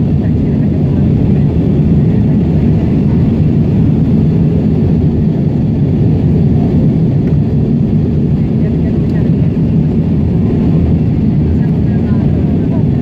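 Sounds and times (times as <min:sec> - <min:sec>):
aircraft cabin engine and airflow: 0:00.0 - 0:13.0.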